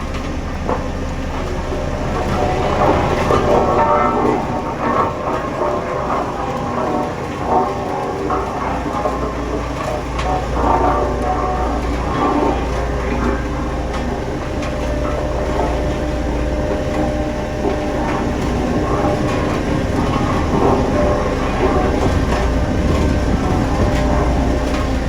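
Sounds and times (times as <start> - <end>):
diesel machinery rumbling: 0.0 - 25.0.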